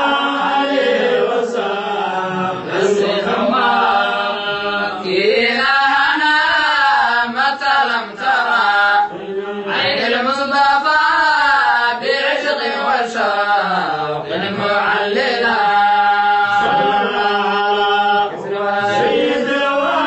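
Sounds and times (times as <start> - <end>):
man chanting devotional poem: 0.0 - 20.0.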